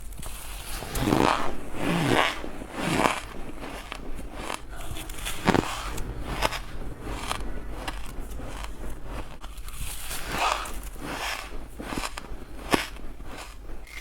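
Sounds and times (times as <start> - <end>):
crunching ice bites: 0.8 - 14.0.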